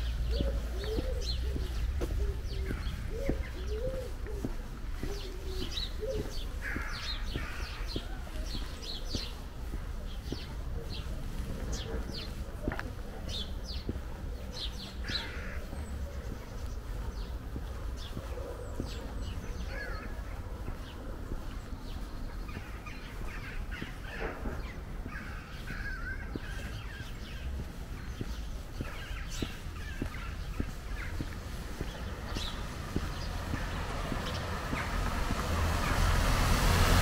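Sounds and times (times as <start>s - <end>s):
birds calling: 0.0s - 37.0s
faint footsteps: 0.0s - 37.0s
low wind rumble: 0.0s - 37.0s.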